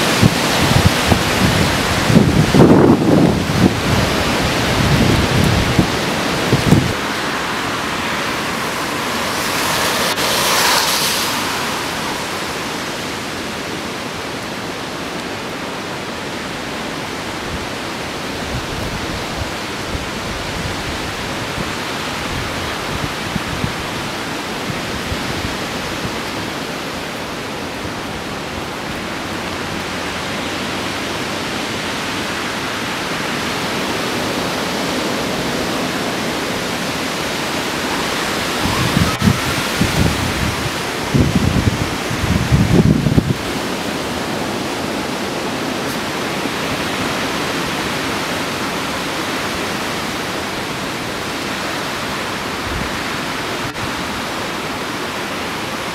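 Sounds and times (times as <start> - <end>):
strong wind roaring through trees: 0.0 - 55.9.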